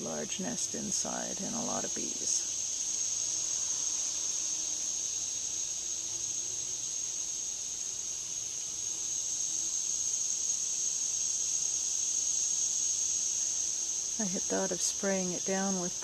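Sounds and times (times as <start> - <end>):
insect chorus drone: 0.0 - 16.0
bees buzzing: 0.5 - 16.0.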